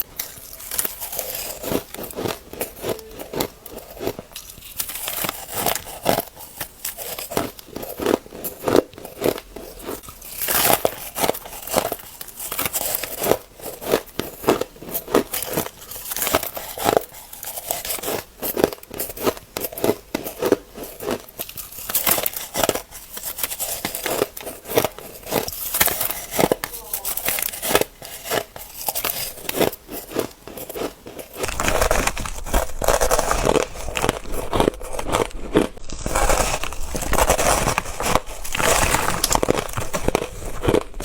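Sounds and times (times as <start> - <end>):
ice being chewed: 0.0 - 41.0.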